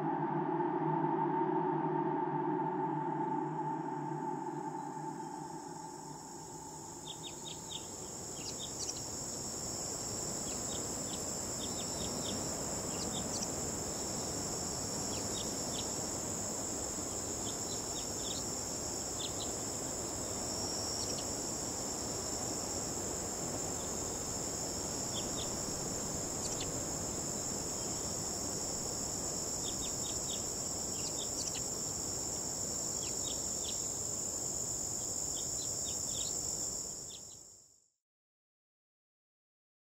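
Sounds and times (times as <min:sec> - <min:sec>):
short insect chirps: 0:03.8 - 0:37.7
crickets shrilling: 0:04.6 - 0:37.5.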